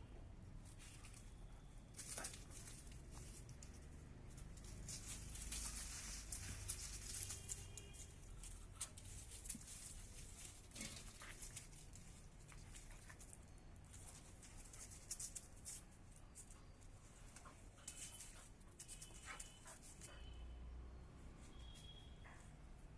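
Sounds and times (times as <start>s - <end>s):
dogs scuffling: 0.6s - 20.3s.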